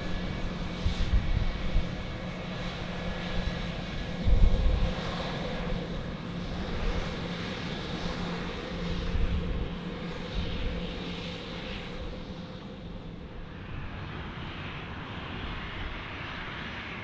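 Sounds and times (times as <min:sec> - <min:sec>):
jet engines with high whine: 0:00.0 - 0:17.0.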